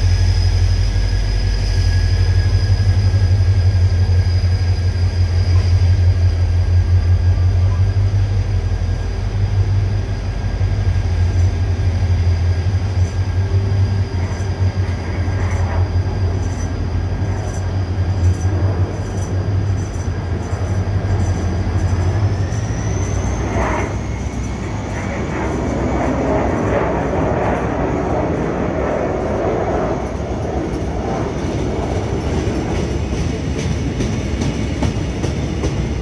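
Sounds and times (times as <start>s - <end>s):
thin whine: 0.0s - 32.6s
train low drone: 0.0s - 36.0s.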